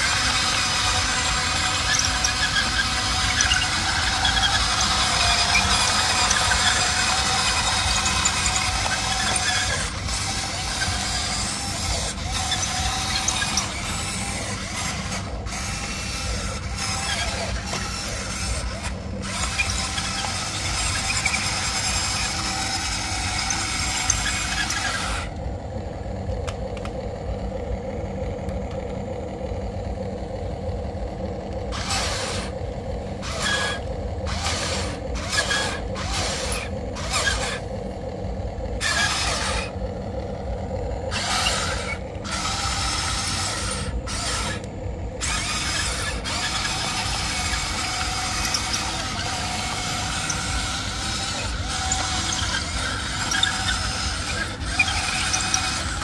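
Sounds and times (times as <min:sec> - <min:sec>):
electric motors whirring and rattling: 0:00.0 - 0:56.0.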